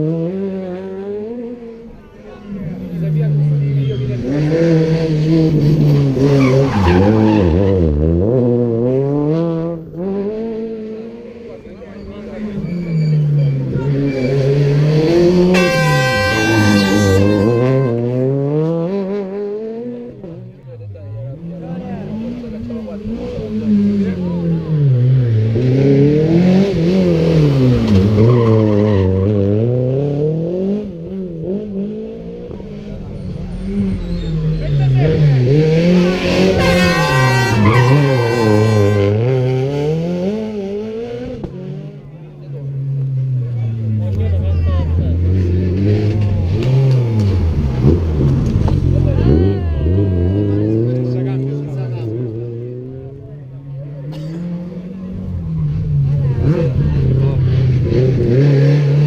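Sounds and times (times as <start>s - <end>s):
rally car engine revving: 0.0s - 59.0s
tyres skidding: 0.0s - 59.0s.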